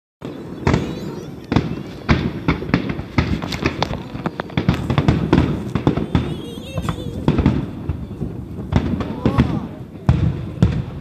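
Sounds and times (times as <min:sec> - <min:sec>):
fireworks bangs and crackles: 0:00.2 - 0:11.0.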